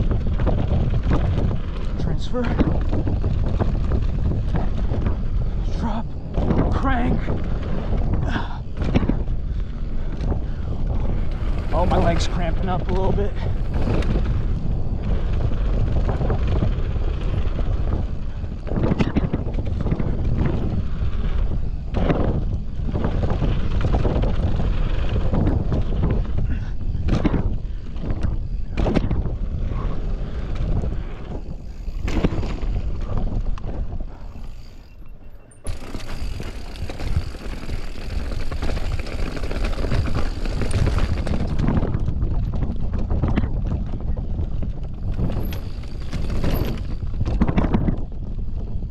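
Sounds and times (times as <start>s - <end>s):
bike chain and frame rattling: 0.0s - 48.9s
tyre and wind rumble: 0.0s - 48.9s.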